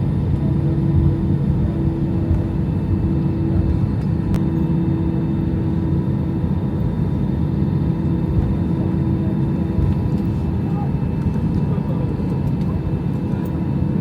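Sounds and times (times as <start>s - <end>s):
aircraft taxiing rumble: 0.0s - 14.0s.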